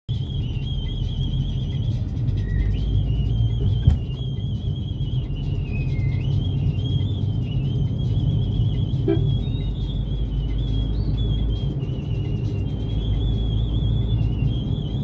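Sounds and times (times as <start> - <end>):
car road and engine rumble: 0.1 - 15.0.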